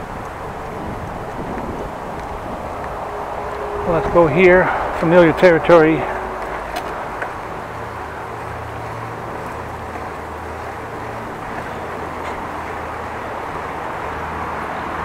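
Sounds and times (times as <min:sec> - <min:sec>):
bicycle riding rushing noise: 0:00.0 - 0:15.0
low hum: 0:00.0 - 0:15.0.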